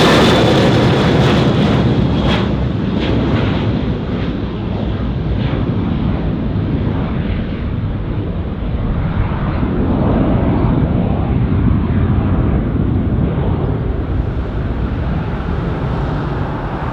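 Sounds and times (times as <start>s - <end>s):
jet engines rumbling: 0.0s - 16.9s.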